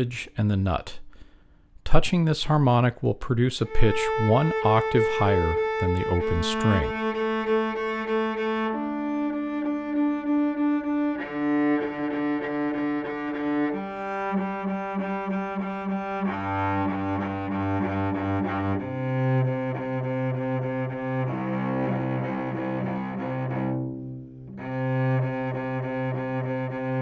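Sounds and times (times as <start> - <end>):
cello sustained bowed notes: 3.4 - 27.0.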